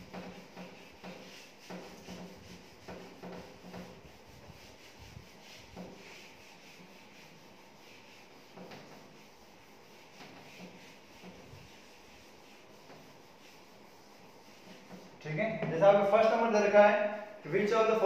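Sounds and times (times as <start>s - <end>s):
duster rubbing on whiteboard: 0.0s - 15.7s.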